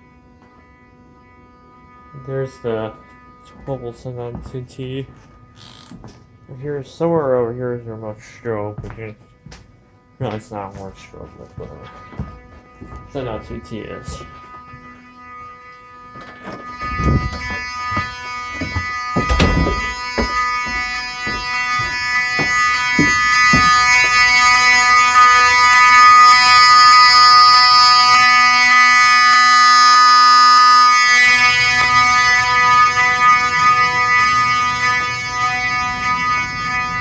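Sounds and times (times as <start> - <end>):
pitched alarm horn tone: 0.0 - 37.0.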